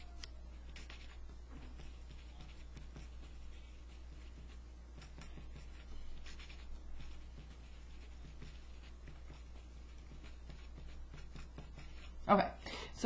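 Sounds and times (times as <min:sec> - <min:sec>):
steady low hum: 0:00.0 - 0:13.0
pen scratching on paper: 0:00.6 - 0:12.4.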